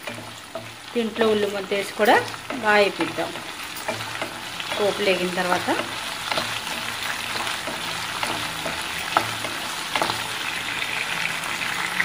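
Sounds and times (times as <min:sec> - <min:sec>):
spatula scraping and tapping pan: 0:00.0 - 0:10.6
spices sizzling in hot oil: 0:00.0 - 0:12.0.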